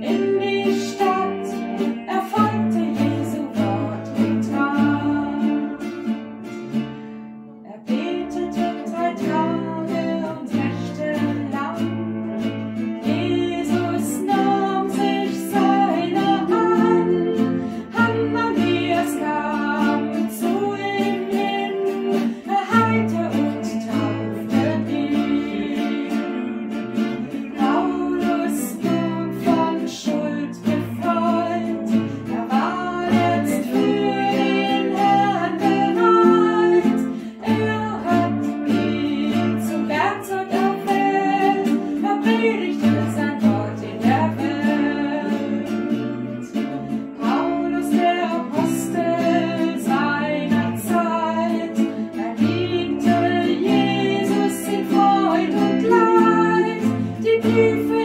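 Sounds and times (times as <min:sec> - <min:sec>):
woman singing a hymn: 0:00.0 - 0:06.1, 0:07.7 - 0:58.0
acoustic guitar: 0:00.0 - 0:58.0.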